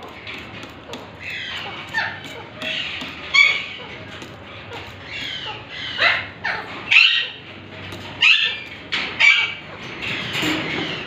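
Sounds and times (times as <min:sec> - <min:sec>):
parakeets squawking: 0:00.0 - 0:11.0.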